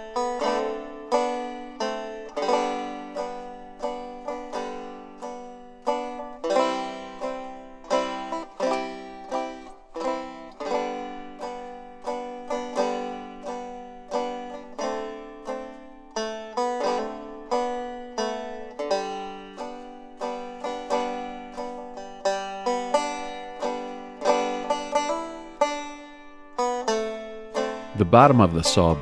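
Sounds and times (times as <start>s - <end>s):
banjo picking a tune: 0.0s - 29.0s.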